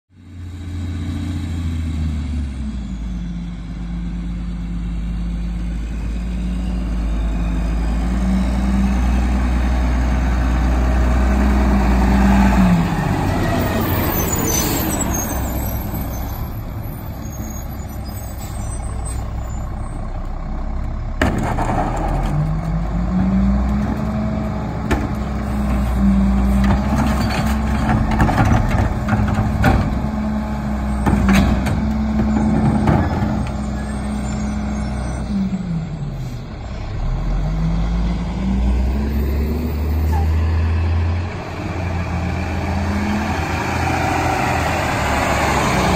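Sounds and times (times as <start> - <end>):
garbage truck diesel engine: 0.1 - 45.9.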